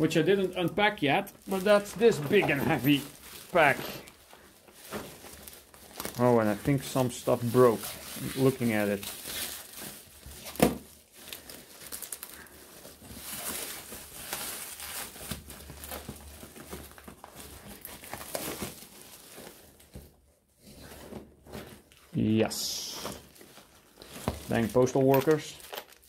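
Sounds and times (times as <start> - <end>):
plastic and paper crinkling: 0.0 - 26.0.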